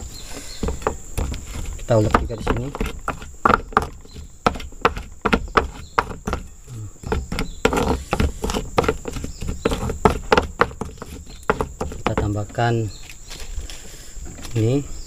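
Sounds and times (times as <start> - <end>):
pestle knocking and grinding in mortar: 0.0 - 13.1.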